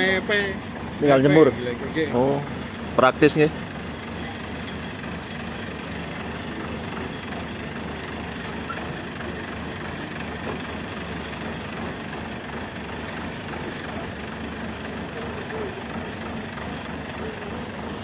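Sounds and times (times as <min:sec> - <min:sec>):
harvester engine running: 0:00.0 - 0:18.0.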